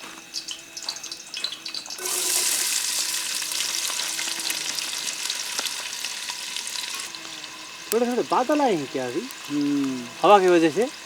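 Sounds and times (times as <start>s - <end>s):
food sizzling in oil: 0.0s - 11.0s
hot oil popping and crackling: 0.0s - 11.0s.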